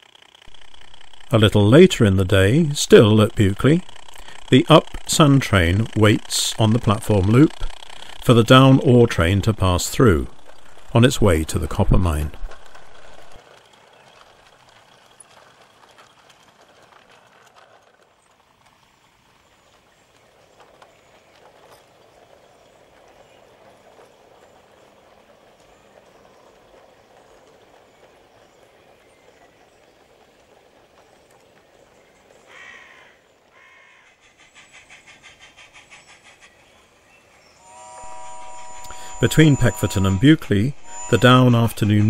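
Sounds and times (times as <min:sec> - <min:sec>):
model train rolling and clattering: 0:00.0 - 0:42.0.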